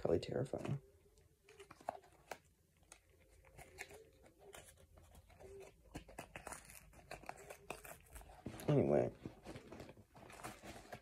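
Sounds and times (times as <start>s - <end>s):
cardboard box crinkling and rustling: 1.6s - 11.0s.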